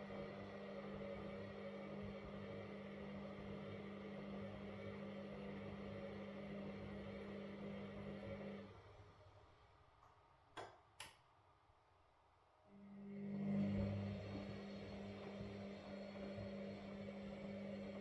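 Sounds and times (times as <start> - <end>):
washing machine motor humming: 0.0 - 9.3, 12.8 - 18.0.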